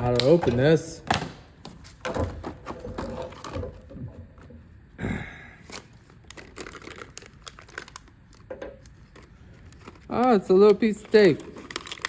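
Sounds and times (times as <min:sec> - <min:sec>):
packaging crinkling and rustling: 0:00.0 - 0:04.5, 0:05.6 - 0:12.0.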